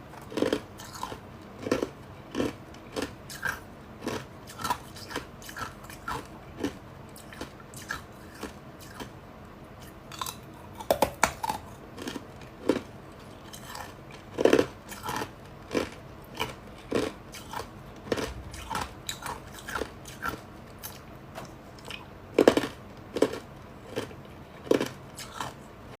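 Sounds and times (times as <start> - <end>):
ice being chewed: 0.2 - 9.1, 9.8 - 25.6.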